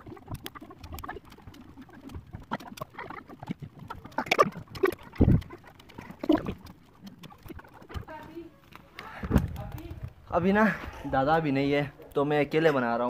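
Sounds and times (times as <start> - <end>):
wicker rods creaking and rustling: 0.0 - 13.0.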